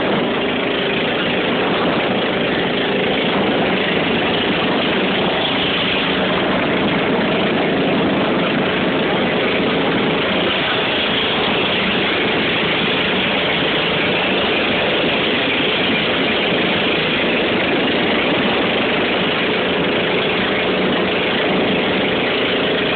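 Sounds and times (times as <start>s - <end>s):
motorboat engine running: 0.0s - 22.9s
water rushing along hull: 0.0s - 22.9s
wind rushing: 0.0s - 22.9s.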